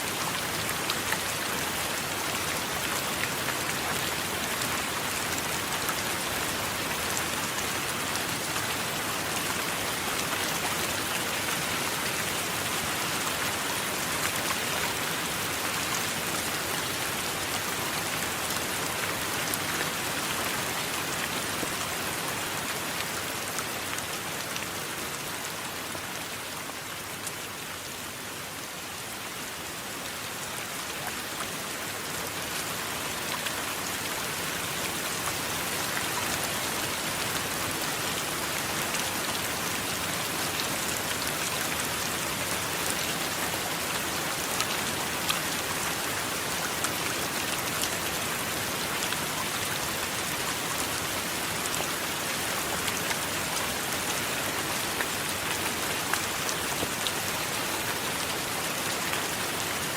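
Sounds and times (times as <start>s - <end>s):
rain patter: 0.0s - 59.9s.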